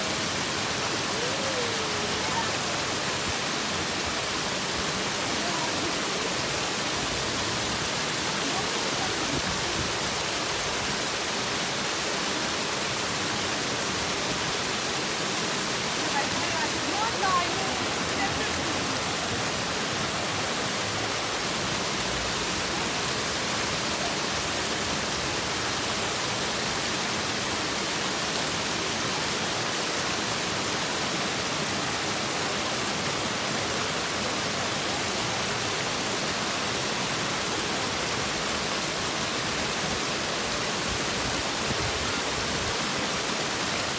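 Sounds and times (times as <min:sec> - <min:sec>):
waterfall rushing and splashing: 0:00.0 - 0:43.9.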